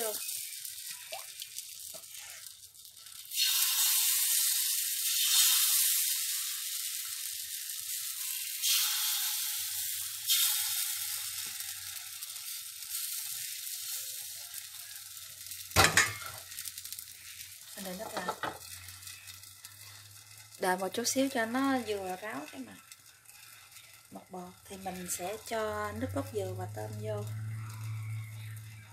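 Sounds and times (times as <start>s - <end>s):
batter sizzling in hot oil: 0.0s - 28.9s.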